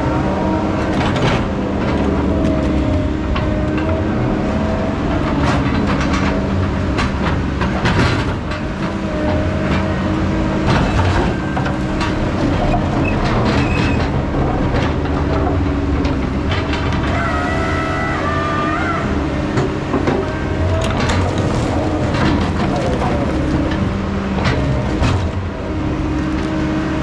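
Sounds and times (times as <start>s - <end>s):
diesel machinery running: 0.0s - 27.0s.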